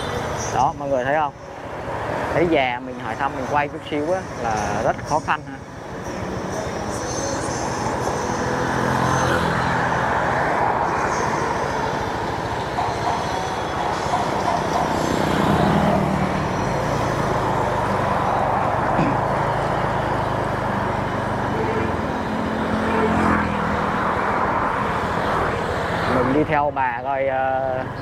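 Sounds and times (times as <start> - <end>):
motorbike engines running: 0.0 - 28.0
passing road noise: 0.0 - 28.0.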